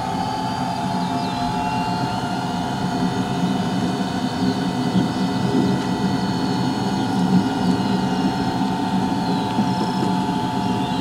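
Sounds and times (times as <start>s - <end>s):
model jet turbine idling: 0.0s - 11.0s.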